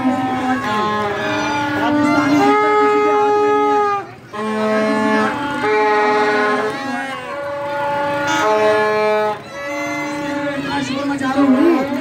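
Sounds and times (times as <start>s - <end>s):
melody of long held notes: 0.0s - 12.0s.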